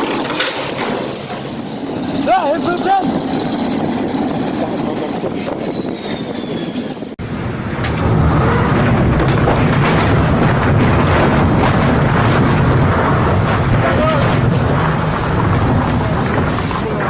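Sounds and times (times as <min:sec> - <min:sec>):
rushing sea: 0:00.0 - 0:17.0
storm wind: 0:00.0 - 0:17.0.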